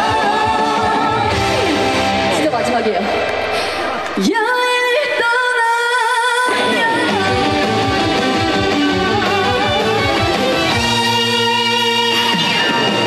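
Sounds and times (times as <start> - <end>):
woman singing with vibrato: 0.0 - 2.0, 4.2 - 13.0
backing music: 0.0 - 5.0, 5.6 - 13.0.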